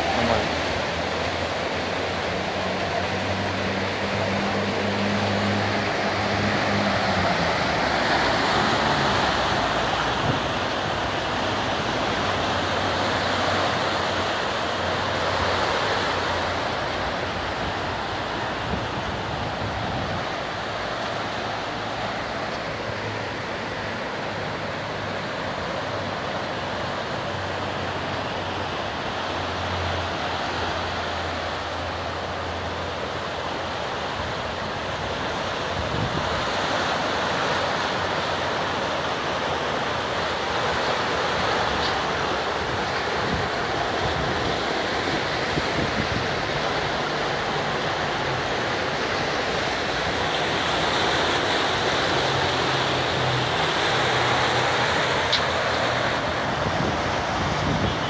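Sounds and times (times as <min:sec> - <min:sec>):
flood water rushing: 0:00.0 - 0:58.0.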